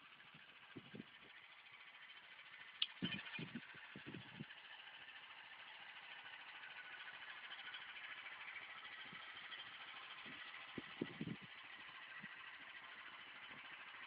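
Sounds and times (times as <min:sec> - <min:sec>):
faint tractor engine idling: 0:00.0 - 0:14.0.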